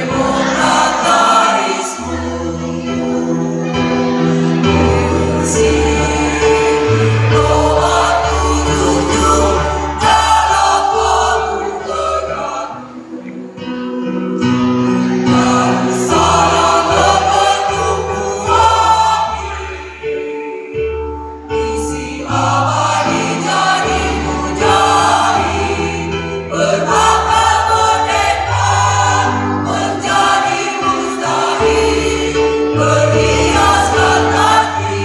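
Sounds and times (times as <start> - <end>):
choir singing in parts: 0.0 - 35.0.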